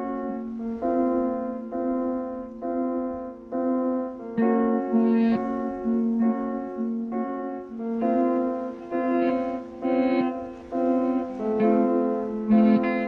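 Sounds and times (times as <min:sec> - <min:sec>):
keyboard playing chords: 0:00.0 - 0:13.0.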